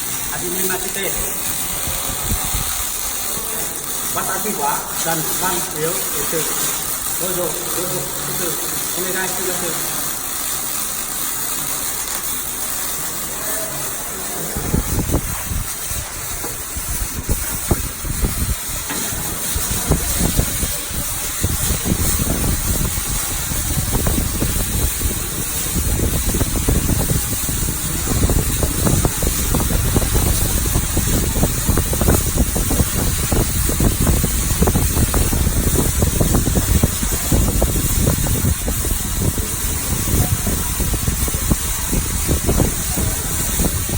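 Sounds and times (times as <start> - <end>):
steady hiss: 0.0 - 43.9
welding arc crackling: 0.0 - 43.9.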